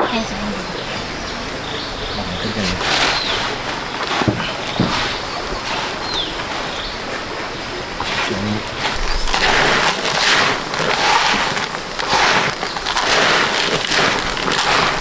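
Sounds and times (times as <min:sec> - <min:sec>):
chicken feed being stirred: 0:00.8 - 0:15.0.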